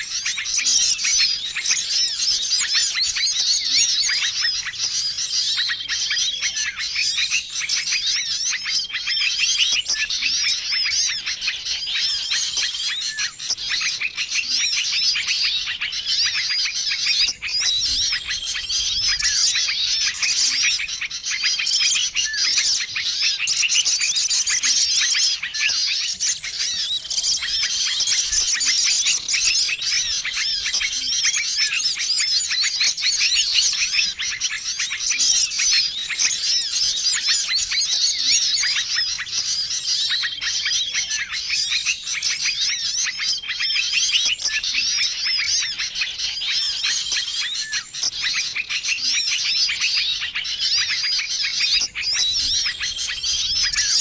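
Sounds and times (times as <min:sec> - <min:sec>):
songbirds chirping and twittering: 0:00.0 - 0:54.0.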